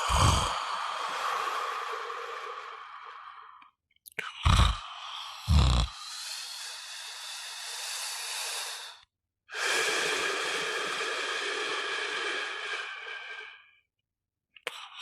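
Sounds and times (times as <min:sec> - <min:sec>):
person snoring: 0:00.0 - 0:03.6, 0:04.3 - 0:13.6.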